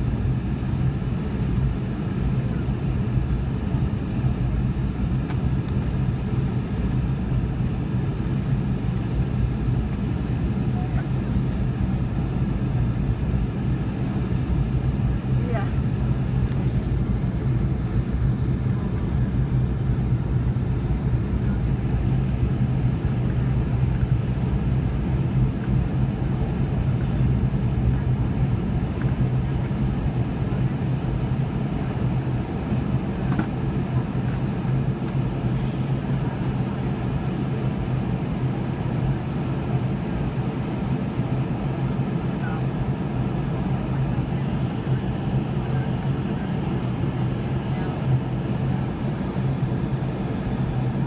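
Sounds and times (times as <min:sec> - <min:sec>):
airliner cabin airflow and engine drone: 0:00.0 - 0:51.0
steady low hum: 0:00.0 - 0:51.0.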